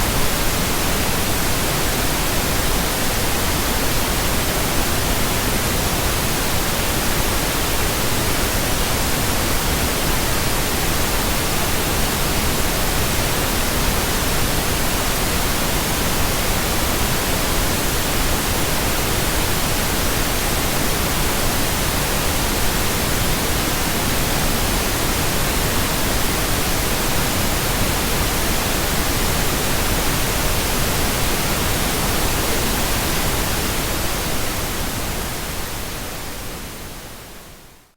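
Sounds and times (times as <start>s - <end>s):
pink noise hiss: 0.0s - 37.9s.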